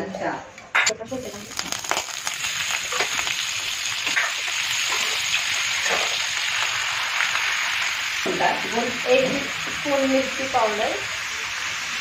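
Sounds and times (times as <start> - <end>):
chicken sizzling in hot oil: 1.1 - 12.0.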